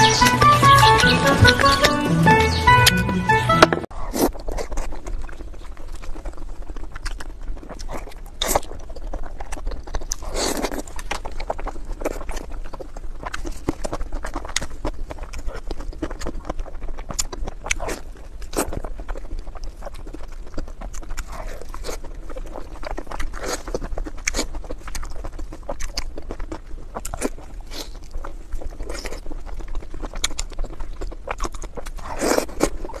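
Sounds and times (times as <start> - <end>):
wet chewing and lip-smacking: 0.0 - 3.1, 3.9 - 33.0.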